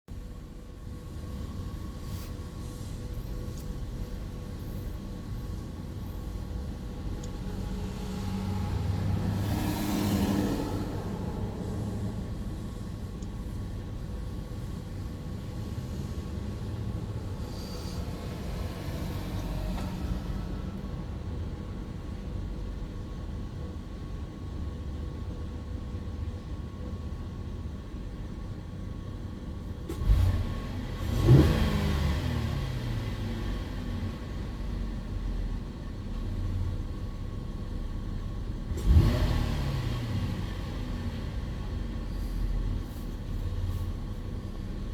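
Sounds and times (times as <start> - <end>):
car engine idling and revving: 0.1 - 44.9.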